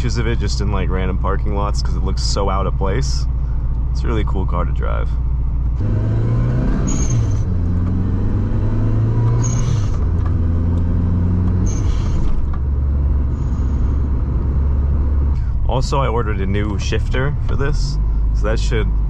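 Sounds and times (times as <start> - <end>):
car engine pulling through gears: 0.0 - 19.0.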